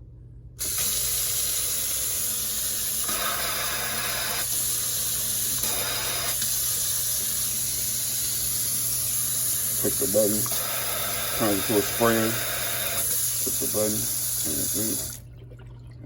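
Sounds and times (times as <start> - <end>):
faucet water running into sink: 0.6 - 15.8.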